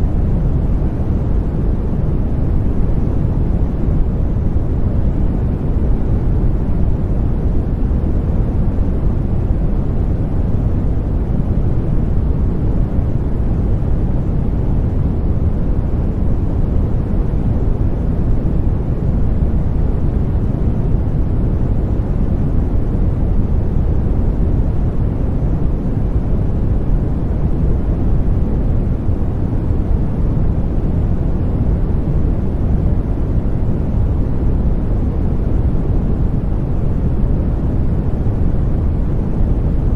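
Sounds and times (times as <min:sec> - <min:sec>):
deep rushing white noise: 0:00.0 - 0:39.9.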